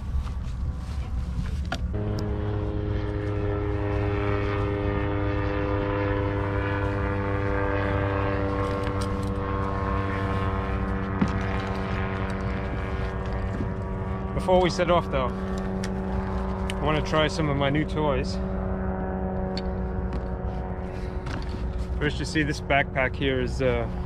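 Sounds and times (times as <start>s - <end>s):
engine droning: 0.0s - 24.0s.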